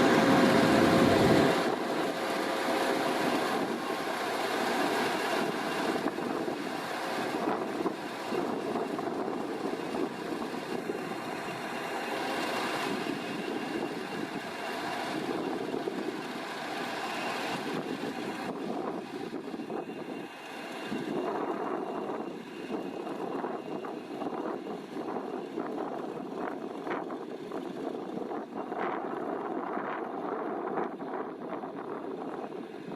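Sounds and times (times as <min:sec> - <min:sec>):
diesel locomotive engine running: 0:00.0 - 0:32.9
faint steady whine: 0:00.0 - 0:32.9.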